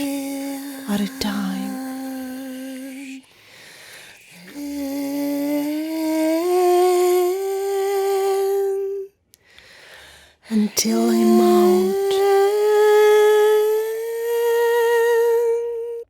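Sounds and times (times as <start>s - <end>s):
woman humming: 0.0s - 3.2s, 4.4s - 9.2s, 10.5s - 16.0s.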